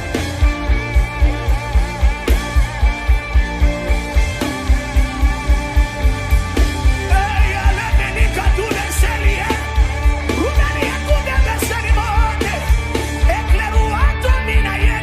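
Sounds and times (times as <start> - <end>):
sustained keyboard chords: 0.0 - 14.8
wavering melodic lead line: 0.0 - 15.0.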